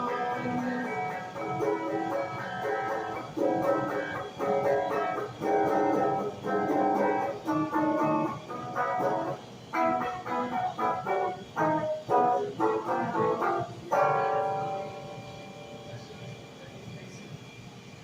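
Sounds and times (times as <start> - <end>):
electric guitar pop-rock music: 0.0 - 15.9.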